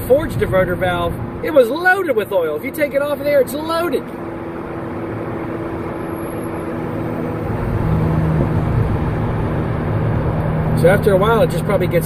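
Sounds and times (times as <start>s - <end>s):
car engine and exhaust running: 0.0s - 12.0s
road noise: 0.0s - 12.0s.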